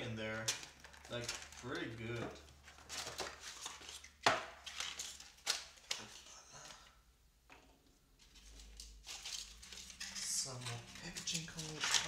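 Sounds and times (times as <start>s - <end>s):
light rustling of packaging: 0.0s - 7.0s, 8.0s - 12.0s.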